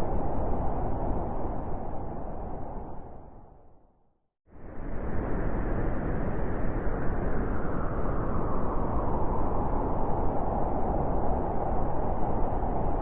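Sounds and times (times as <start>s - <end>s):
blizzard wind howling: 0.0s - 13.0s.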